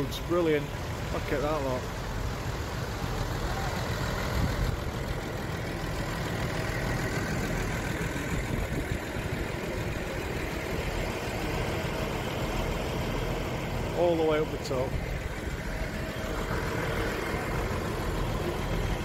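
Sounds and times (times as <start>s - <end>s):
tractor diesel engines idling: 0.0s - 19.0s.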